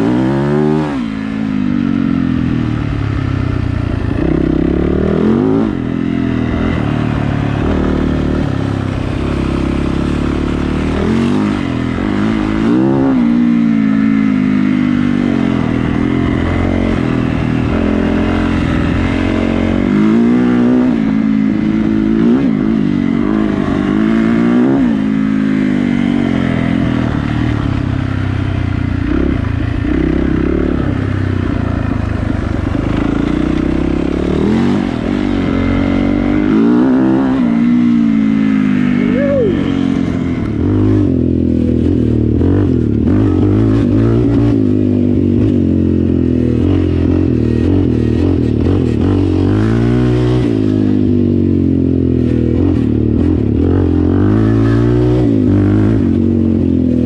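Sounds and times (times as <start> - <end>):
atv engine: 0.0 - 57.0
dirt bike engine revving: 0.0 - 57.0.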